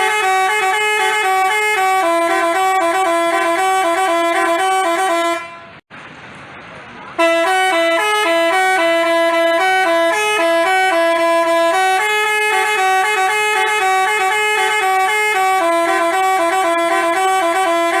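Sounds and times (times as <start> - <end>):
bus horn playing a quick melody: 0.0 - 5.8, 7.2 - 18.0.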